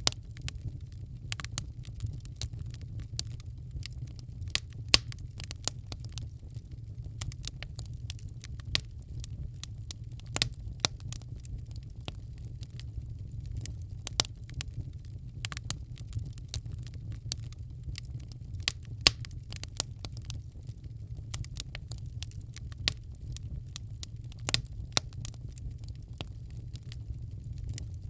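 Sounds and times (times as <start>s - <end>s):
fire pops and snaps: 0.0s - 28.0s
low rumble of fire: 0.0s - 28.0s
wood fire crackling: 0.0s - 28.0s.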